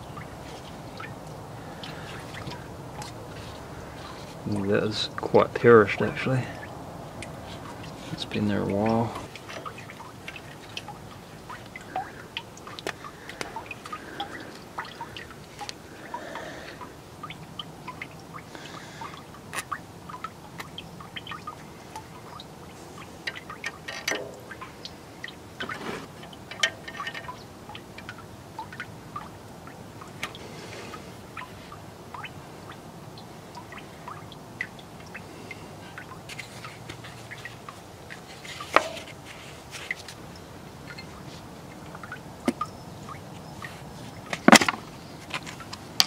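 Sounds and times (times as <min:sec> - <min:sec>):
liquid dripping: 0:00.0 - 0:46.0.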